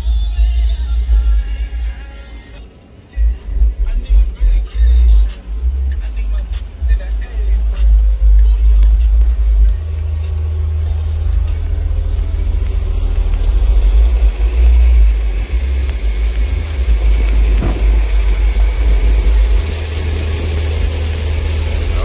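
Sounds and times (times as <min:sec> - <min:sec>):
deep bass boom from subwoofers: 0:03.2 - 0:22.0.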